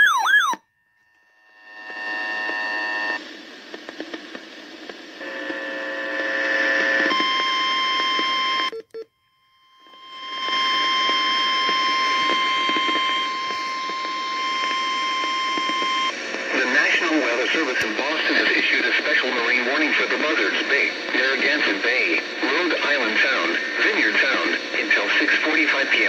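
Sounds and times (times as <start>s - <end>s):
radio hiss: 1.7s - 7.2s, 10.0s - 26.0s.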